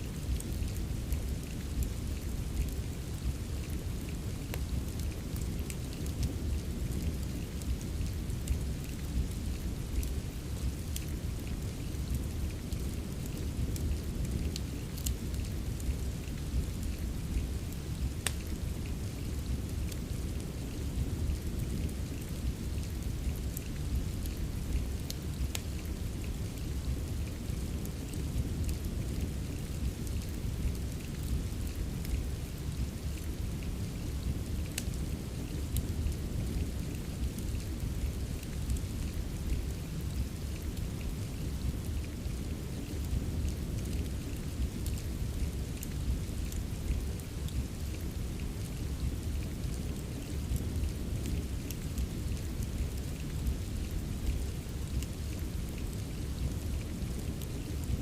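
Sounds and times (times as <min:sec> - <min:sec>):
fireplace crackling: 0:00.0 - 0:48.2
steady rain: 0:00.0 - 0:58.0.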